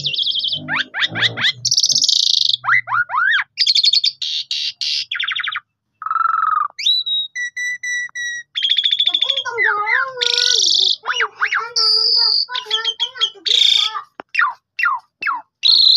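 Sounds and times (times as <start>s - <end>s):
starling singing whistles and chatter: 0.0s - 15.9s.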